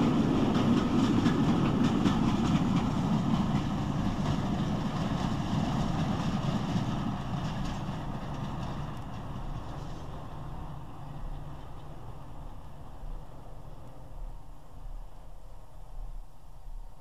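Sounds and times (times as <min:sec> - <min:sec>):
wheels clicking over rail joints: 0:00.0 - 0:15.1
diesel locomotive rumble: 0:00.0 - 0:17.0.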